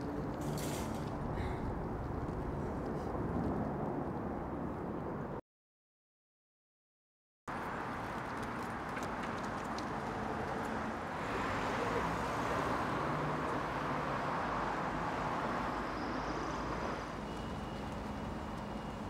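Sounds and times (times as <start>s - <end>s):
road traffic: 0.0s - 5.4s, 7.5s - 19.0s.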